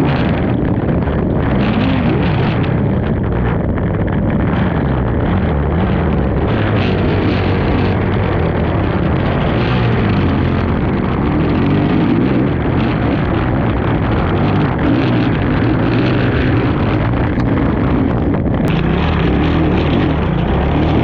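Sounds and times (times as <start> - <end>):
atv engine revving: 0.0 - 21.0
wind on microphone: 0.0 - 21.0.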